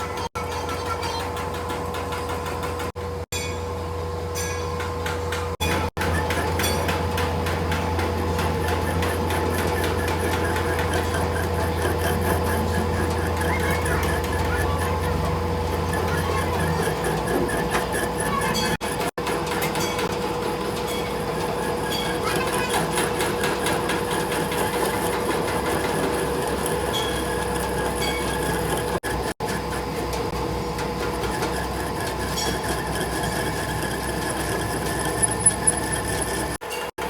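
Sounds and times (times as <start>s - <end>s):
workshop machine humming and clattering: 0.0s - 37.0s.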